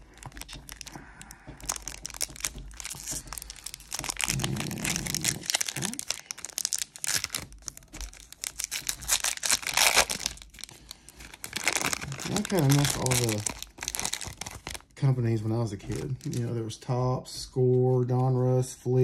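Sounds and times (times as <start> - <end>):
foil wrapper crinkling and tearing: 0.0 - 15.0, 15.8 - 16.5.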